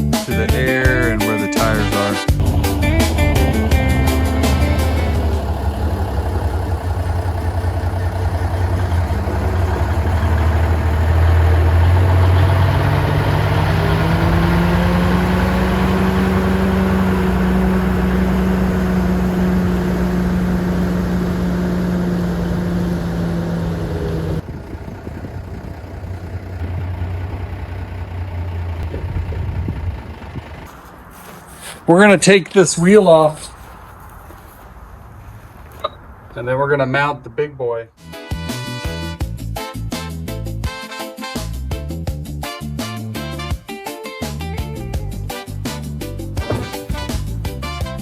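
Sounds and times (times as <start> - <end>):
diesel truck engine running: 0.7 - 37.5, 44.6 - 48.0.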